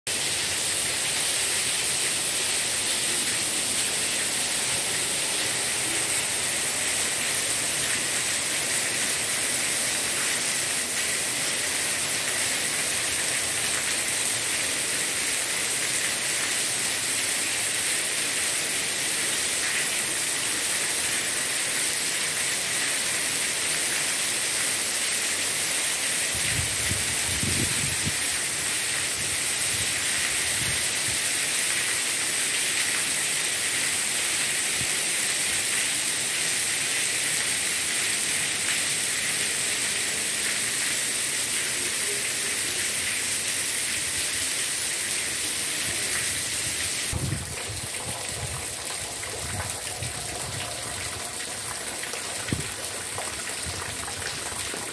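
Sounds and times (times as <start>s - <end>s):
heavy rain on stone and gravel: 0.1s - 54.9s.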